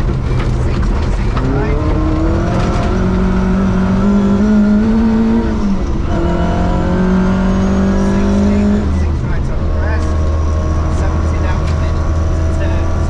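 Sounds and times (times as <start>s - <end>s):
car engine at high revs: 0.0s - 13.0s
gravel and road noise: 0.0s - 13.0s.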